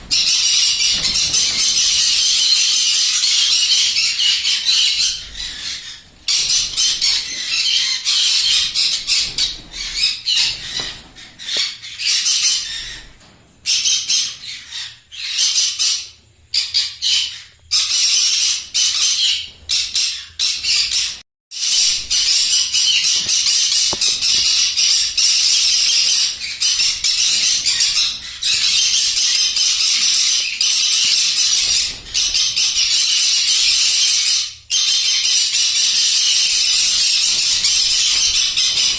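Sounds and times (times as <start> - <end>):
parrots squawking and screeching: 0.0 - 13.1, 13.7 - 38.9.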